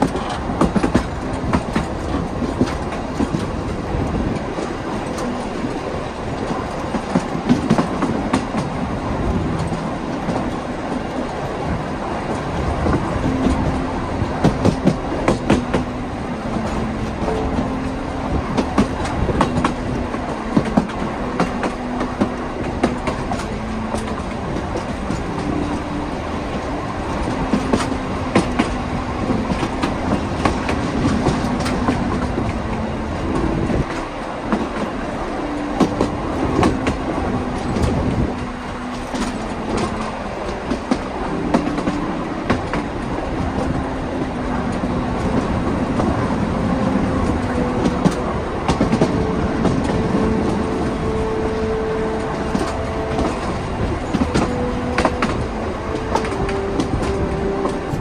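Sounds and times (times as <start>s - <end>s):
train carriages rumbling: 0.0s - 58.0s
wheels clicking over rail joints: 0.0s - 58.0s.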